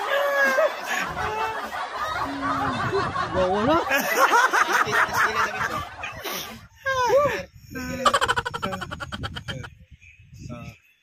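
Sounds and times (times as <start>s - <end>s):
people laughing: 0.0s - 7.2s, 7.8s - 9.8s.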